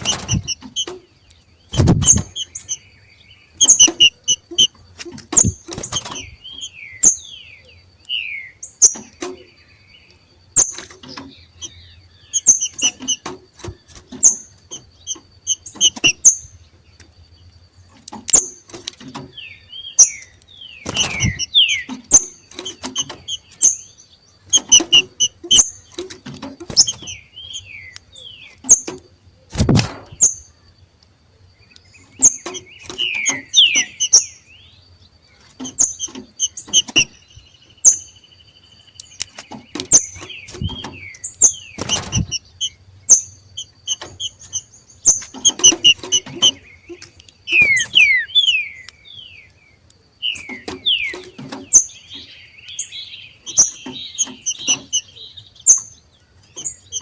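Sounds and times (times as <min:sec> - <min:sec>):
bird clicking and whistling calls: 0:00.0 - 0:31.1, 0:31.7 - 0:34.8, 0:35.4 - 0:57.0.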